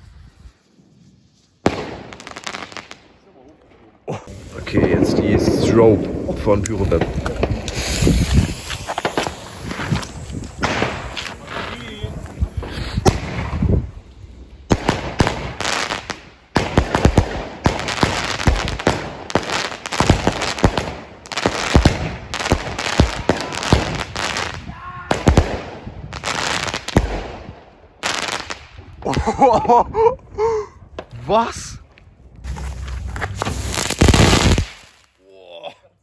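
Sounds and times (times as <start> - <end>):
fireworks bangs and crackling: 0.0 - 3.2, 4.2 - 29.6, 33.0 - 35.2.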